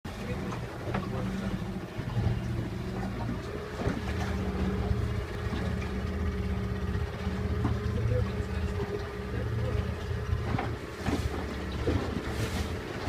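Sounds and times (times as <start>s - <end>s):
boat engine droning: 0.1s - 13.0s.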